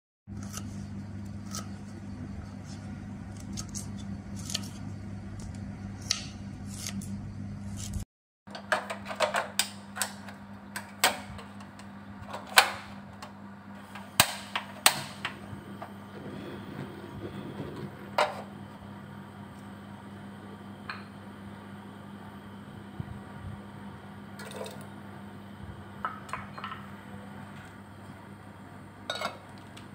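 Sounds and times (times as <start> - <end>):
steady low hum: 0.3 - 29.9.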